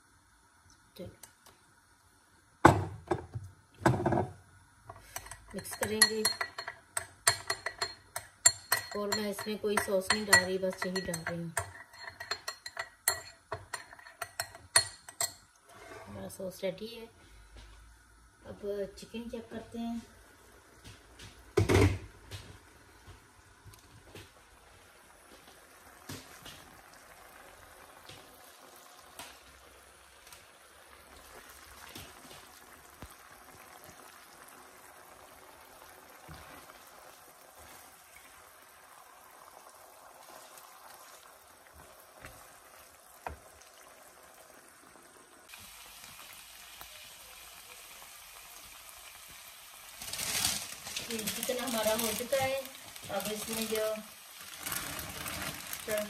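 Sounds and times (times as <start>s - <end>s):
chicken sizzling in a wok: 0.0s - 56.0s.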